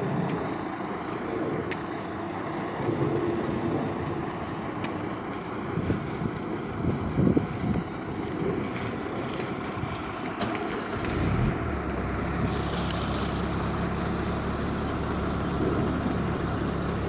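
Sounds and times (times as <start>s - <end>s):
irregular low rumble: 0.0s - 17.0s
vehicle engine idling: 0.0s - 17.0s.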